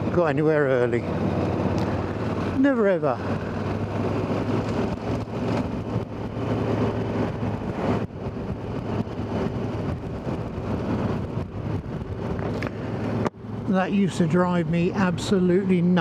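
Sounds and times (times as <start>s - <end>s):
motorcycle engine running: 0.0s - 13.8s
wind noise: 0.0s - 16.0s.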